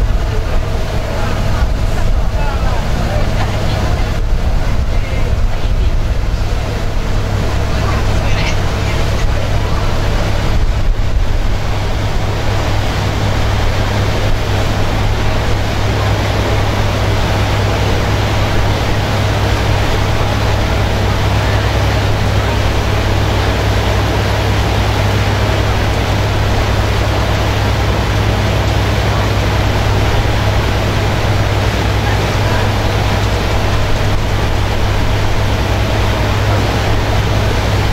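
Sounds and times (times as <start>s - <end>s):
boat engine hum: 0.0s - 37.9s
water rushing along hull: 0.0s - 37.9s.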